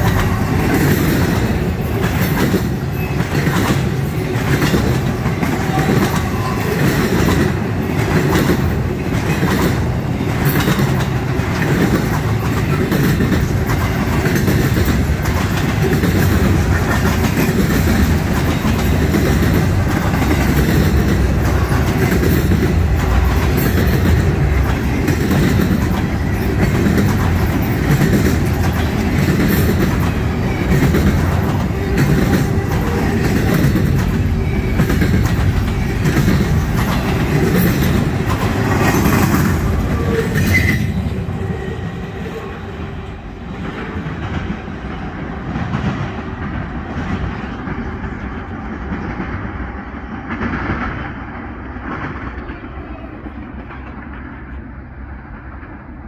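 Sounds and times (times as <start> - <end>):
train wheels clicking: 0.0 - 56.0
train wheels rumbling on rails: 0.0 - 56.0.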